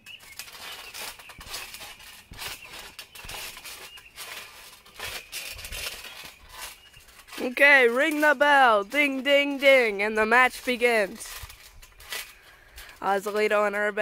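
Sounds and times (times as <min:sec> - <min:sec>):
rustling and clicks: 0:00.0 - 0:14.0.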